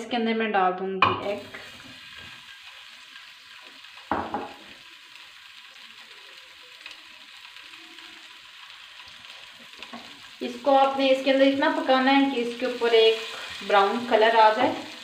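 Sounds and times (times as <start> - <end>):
oil sizzling in frying pan: 1.2 - 15.0.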